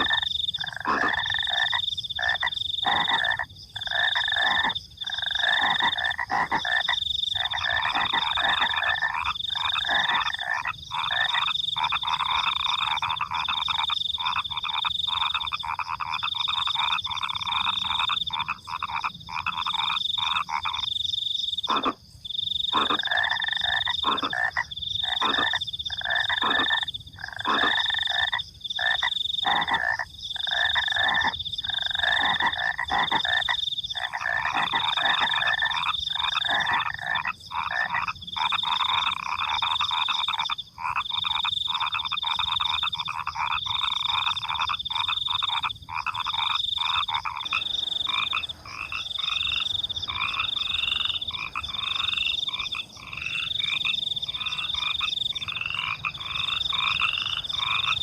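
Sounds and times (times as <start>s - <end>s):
crickets chirping: 0.0s - 58.0s
frogs croaking: 0.0s - 58.0s.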